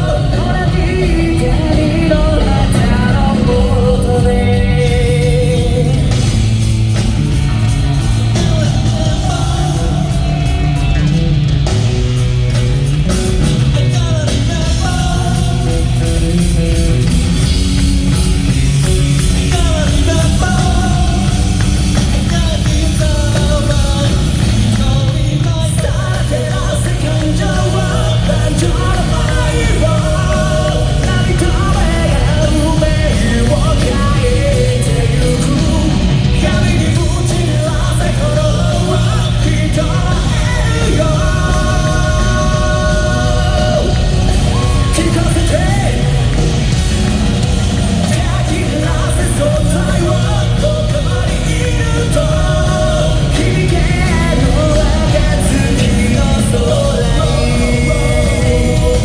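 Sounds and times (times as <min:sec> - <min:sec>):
person singing lead vocal: 0:00.0 - 0:59.0
rock band playing: 0:00.0 - 0:59.0.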